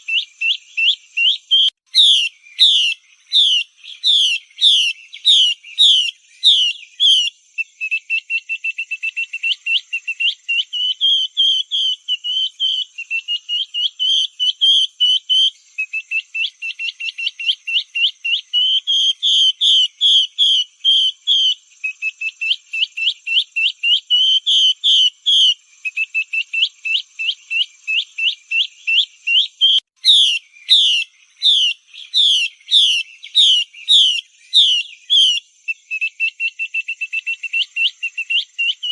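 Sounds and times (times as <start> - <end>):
bird whistled calls: 0.0 - 38.9.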